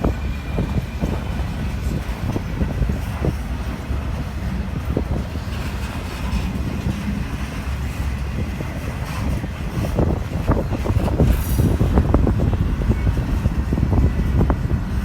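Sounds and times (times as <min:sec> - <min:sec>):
train rumbling past: 0:00.0 - 0:15.0
wind on microphone: 0:00.0 - 0:15.0.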